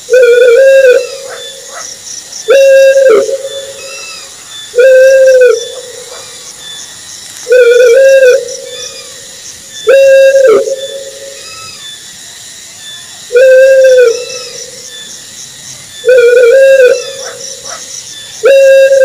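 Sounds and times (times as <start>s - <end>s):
owl hooting: 0.1s - 6.5s, 7.5s - 12.0s, 13.3s - 15.1s, 16.0s - 19.0s.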